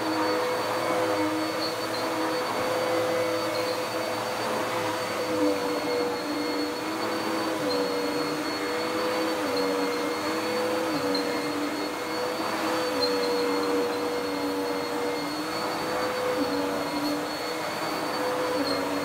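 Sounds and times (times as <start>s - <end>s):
vacuum cleaner whirring: 0.0s - 19.0s.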